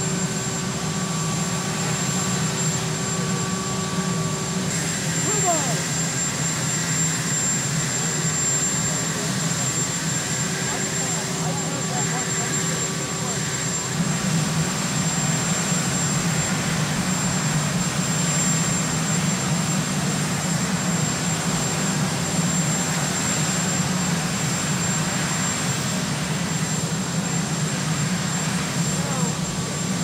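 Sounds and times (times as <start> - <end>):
helicopter turbine engines running: 0.0 - 30.0.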